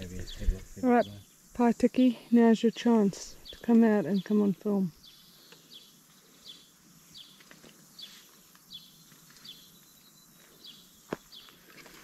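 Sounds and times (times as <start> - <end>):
small bird chirping: 0.0 - 11.8.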